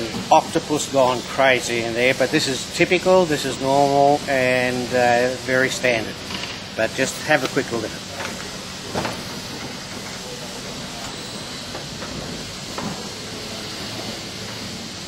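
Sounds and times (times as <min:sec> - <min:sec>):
workshop background hiss: 0:00.0 - 0:15.0.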